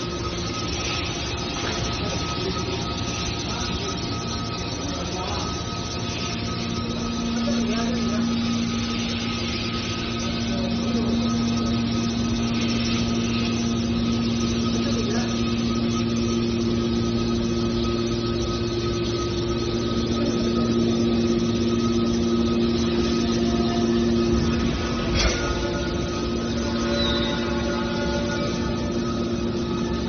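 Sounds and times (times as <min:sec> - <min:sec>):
hydraulic baler motor humming: 0:00.0 - 0:30.0.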